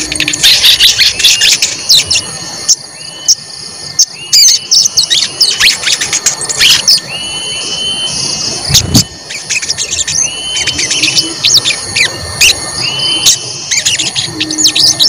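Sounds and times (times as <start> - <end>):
songbird chirping and whistling: 0.0 - 15.0.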